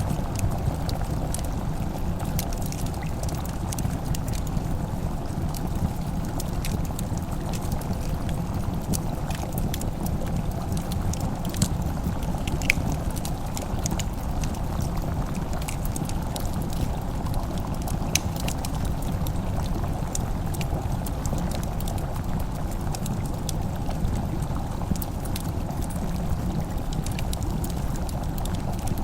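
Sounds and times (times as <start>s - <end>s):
log fire crackling: 0.0s - 29.0s.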